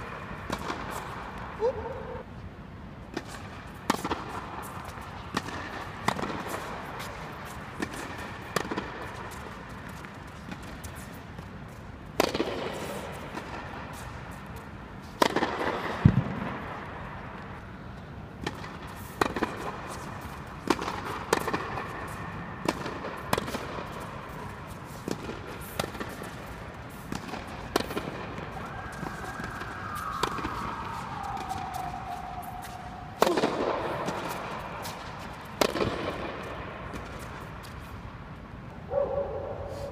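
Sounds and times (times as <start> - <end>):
tennis balls struck by rackets: 0.0 - 1.6, 3.0 - 17.5, 18.3 - 38.1.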